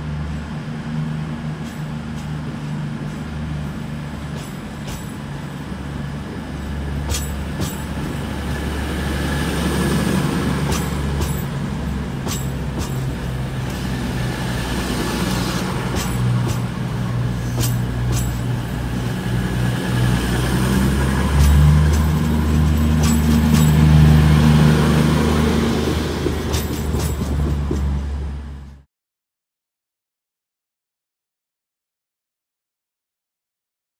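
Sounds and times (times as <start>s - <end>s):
train motors humming: 0.0s - 28.8s.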